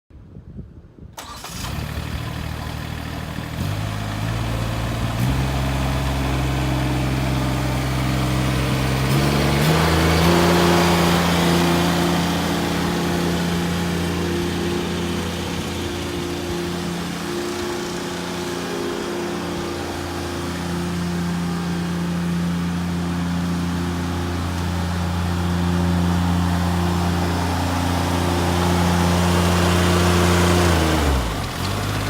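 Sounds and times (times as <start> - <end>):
mower diesel engine running: 1.2 - 32.0.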